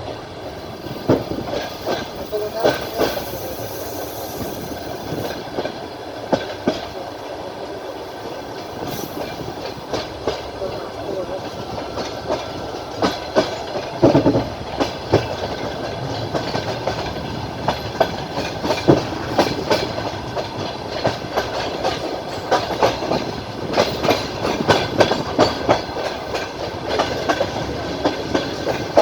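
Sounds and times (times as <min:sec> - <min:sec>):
train wheels clattering over rails: 0:00.0 - 0:29.0.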